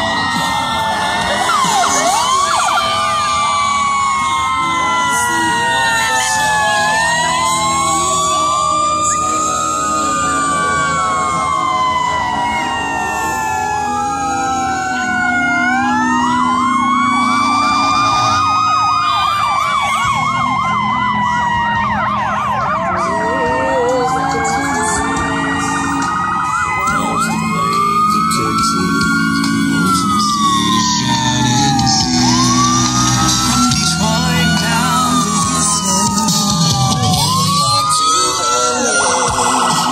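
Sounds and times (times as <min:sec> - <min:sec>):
fire truck sirens wailing: 0:00.0 - 0:39.9
truck engines rumbling: 0:00.0 - 0:39.9
warbling siren yelp: 0:00.0 - 0:39.9.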